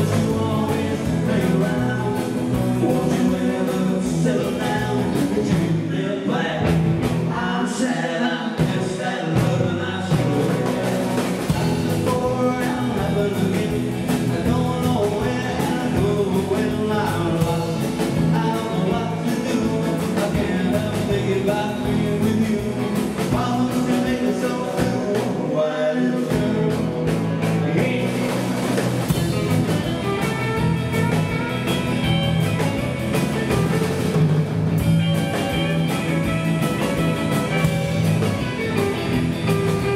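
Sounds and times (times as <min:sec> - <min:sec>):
drum kit: 0:00.0 - 0:39.9
electric bass: 0:00.0 - 0:39.9
electric guitars: 0:00.0 - 0:39.9.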